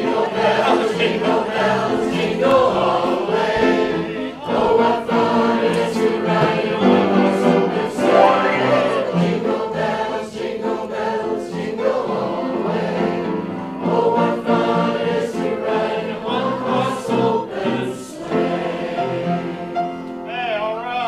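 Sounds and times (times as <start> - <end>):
choir singing in harmony: 0.0 - 20.1.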